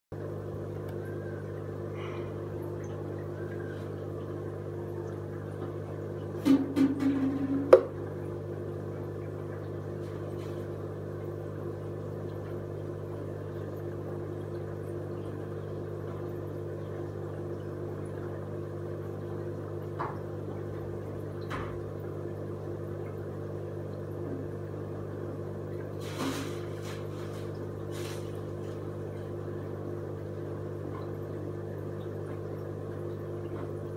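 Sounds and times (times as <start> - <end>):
aquarium air pump humming: 0.1 - 33.9.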